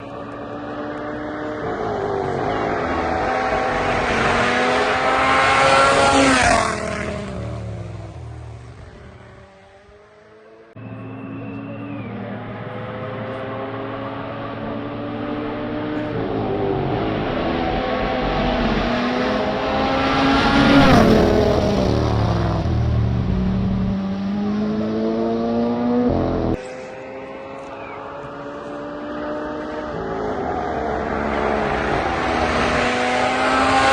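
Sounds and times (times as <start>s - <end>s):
rally car passing at full throttle: 0.0s - 33.9s.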